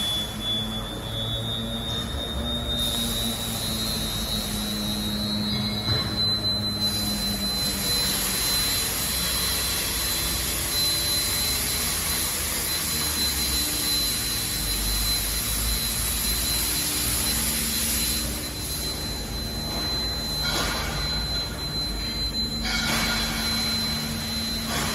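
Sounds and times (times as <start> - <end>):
high machine whine: 0.0 - 24.9
low machine rumble: 0.0 - 24.9
machine hissing: 0.0 - 24.9.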